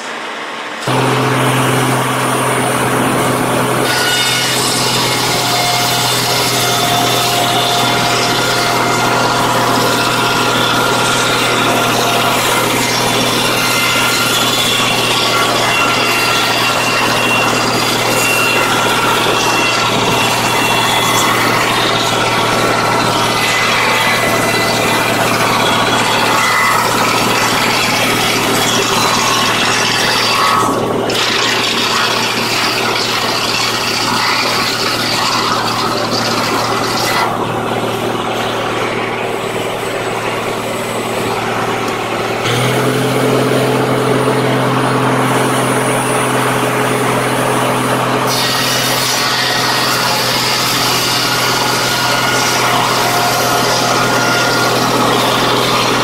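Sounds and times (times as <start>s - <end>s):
mill drive droning: 0.0s - 56.0s
saw blade cutting log: 0.8s - 56.0s.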